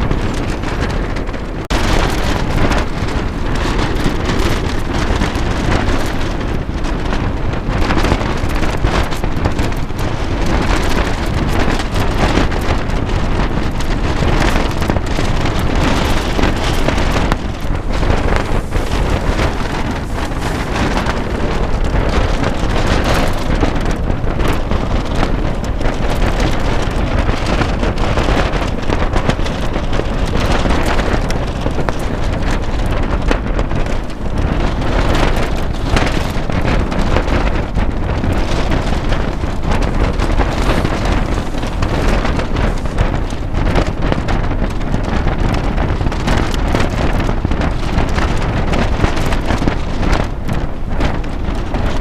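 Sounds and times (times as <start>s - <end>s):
strong wind buffeting microphone: 0.0s - 52.0s.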